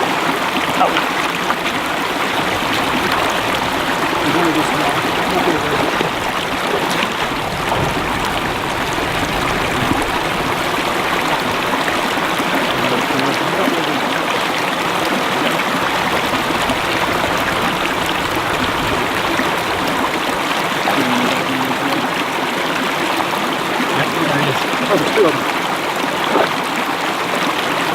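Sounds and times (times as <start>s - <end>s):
creek babbling: 0.0s - 27.9s.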